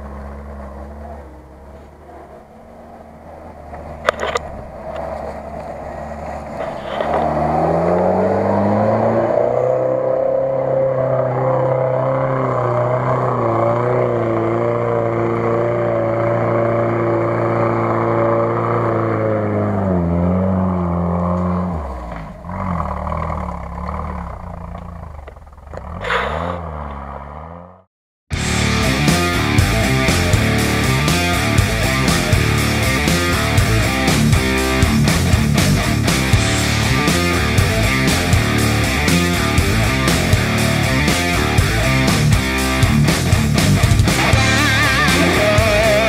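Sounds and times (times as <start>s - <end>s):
off-road engine revving: 0.0s - 46.0s.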